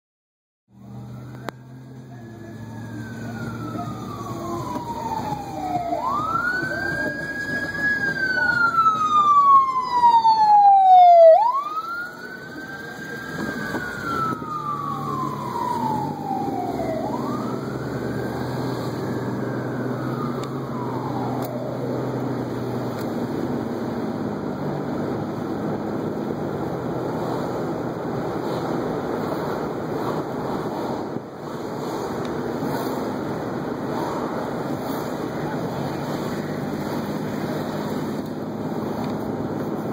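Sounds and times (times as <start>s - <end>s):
fire engine siren wailing: 0.7s - 39.9s.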